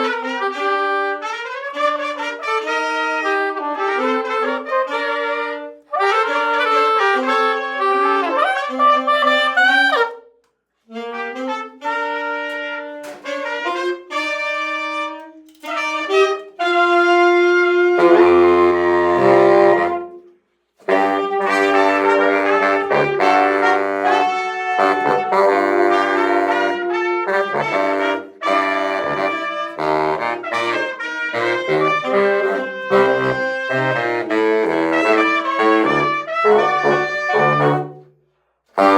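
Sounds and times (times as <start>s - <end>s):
saxophone duet salsa tune: 0.0s - 38.1s.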